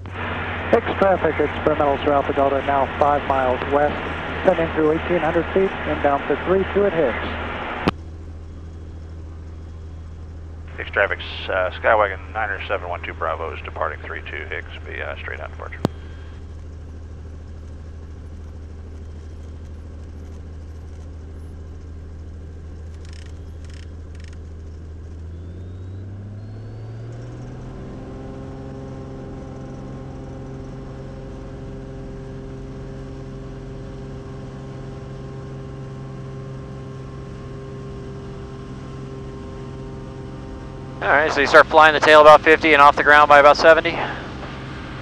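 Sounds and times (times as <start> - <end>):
propeller plane engine revving: 0.0 - 45.0.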